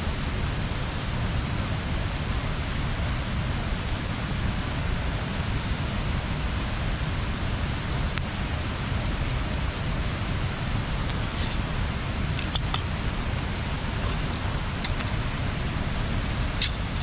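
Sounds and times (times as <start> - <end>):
bonfire rushing: 0.0 - 17.0
fire crackles: 0.0 - 17.0.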